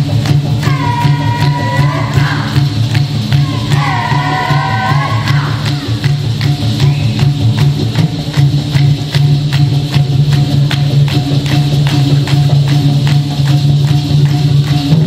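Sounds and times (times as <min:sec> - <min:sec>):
sharp percussive strikes: 0:00.0 - 0:15.0.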